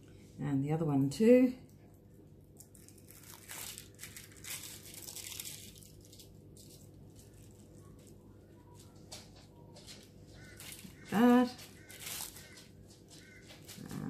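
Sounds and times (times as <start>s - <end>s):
plastic sheet crinkling: 2.4s - 14.0s.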